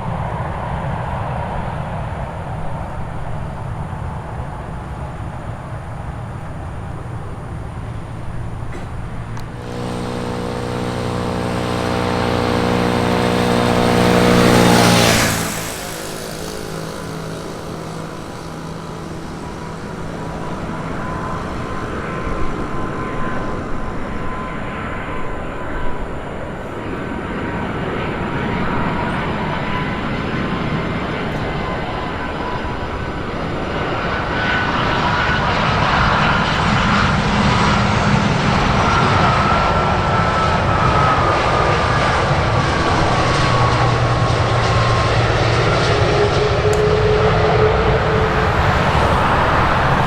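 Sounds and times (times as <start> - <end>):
aircraft engine hum: 0.0 - 50.0
high engine whine: 0.0 - 50.0.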